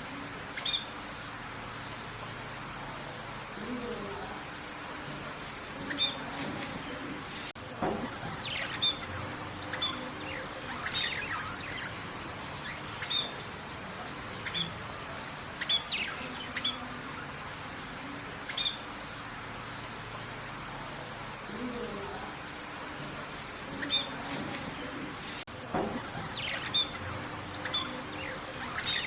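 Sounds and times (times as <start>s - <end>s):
steady background hiss: 0.0s - 29.0s
birds chirping: 0.4s - 29.0s.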